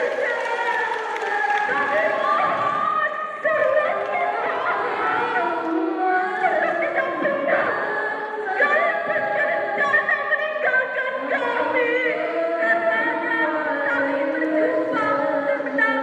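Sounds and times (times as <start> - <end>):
girls singing together: 0.0 - 16.0.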